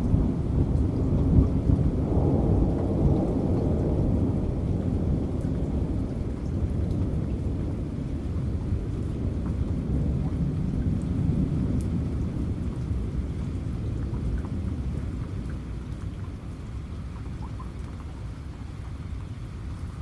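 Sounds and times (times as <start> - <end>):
low rolling thunder: 0.0 - 16.2
raindrop ticks: 0.0 - 20.0
steady rain: 0.0 - 20.0.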